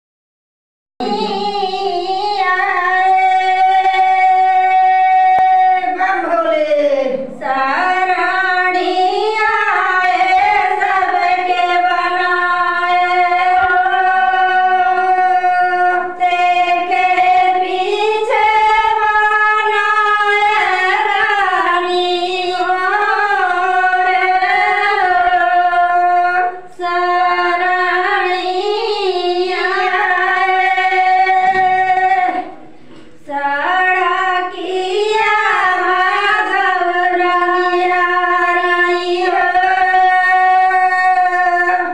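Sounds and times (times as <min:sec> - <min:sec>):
woman singing unaccompanied: 0:01.0 - 0:41.9.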